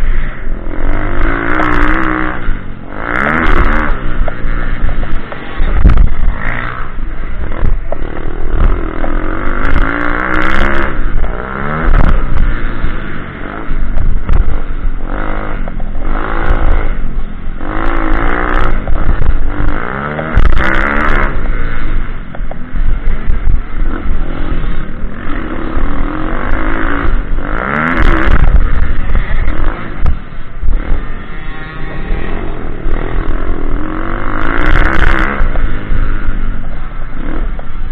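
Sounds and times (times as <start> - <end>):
pit bike engine revving: 0.0 - 37.9.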